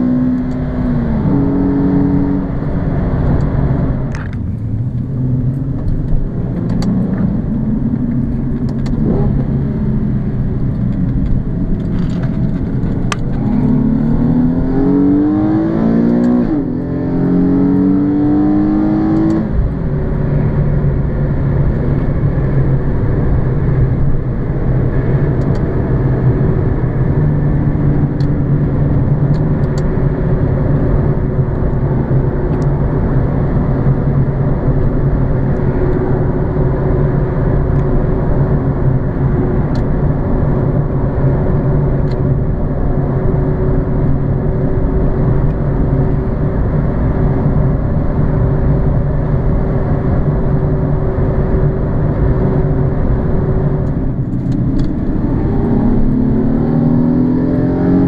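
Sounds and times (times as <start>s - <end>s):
car engine droning: 0.0s - 58.0s
tyre and road noise: 0.0s - 58.0s.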